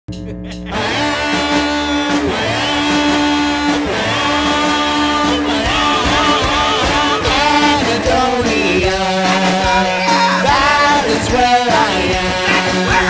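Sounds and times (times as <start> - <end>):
rock music with guitar: 0.5 - 13.0.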